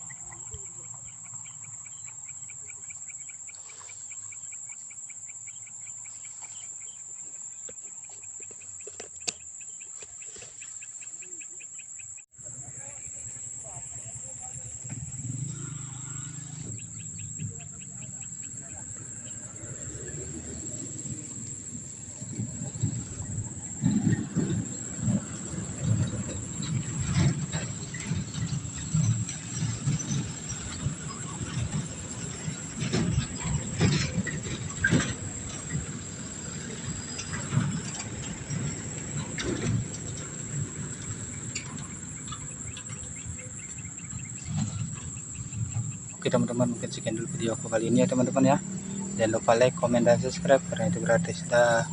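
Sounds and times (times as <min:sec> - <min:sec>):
insects trilling: 0:00.0 - 0:51.9
quick insect chirps: 0:00.0 - 0:51.9.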